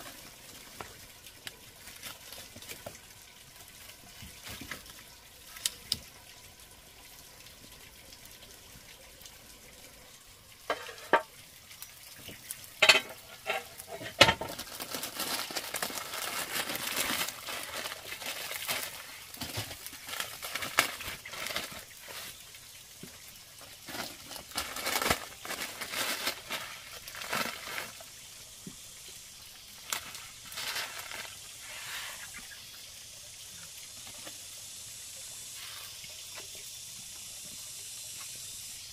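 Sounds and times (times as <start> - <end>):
water splashing and running: 0.0 - 38.9.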